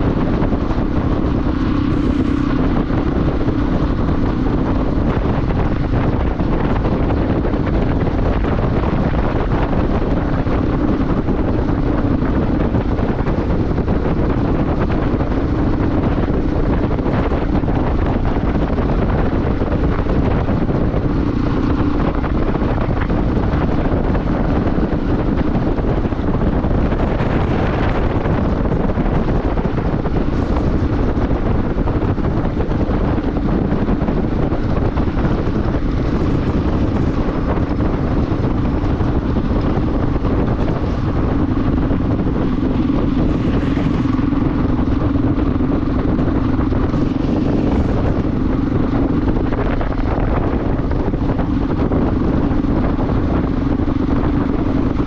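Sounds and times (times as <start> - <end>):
motorbike engine drone: 0.0 - 55.0
wind rushing over microphone: 0.0 - 55.0.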